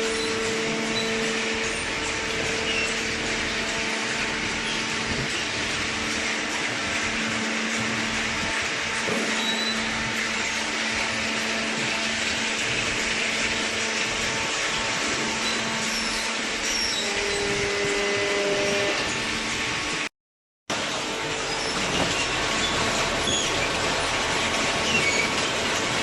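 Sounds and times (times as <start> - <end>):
baler machine hum and hiss: 0.0 - 20.1, 20.7 - 26.0.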